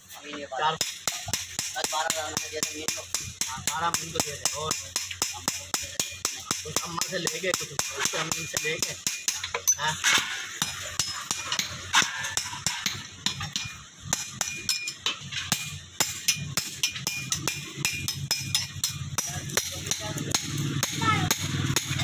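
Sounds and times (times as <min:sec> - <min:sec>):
hammer striking metal: 0:00.8 - 0:22.0.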